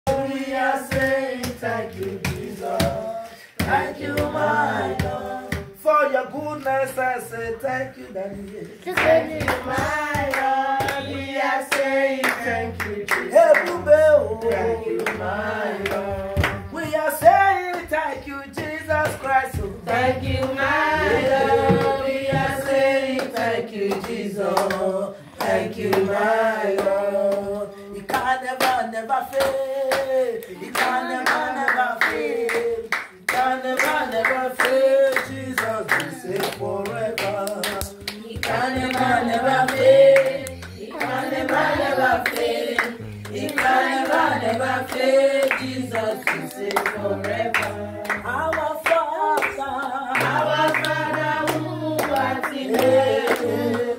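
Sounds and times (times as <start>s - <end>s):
hands clapping: 0.1s - 5.8s, 8.4s - 53.9s
woman singing a worship song: 0.1s - 53.9s.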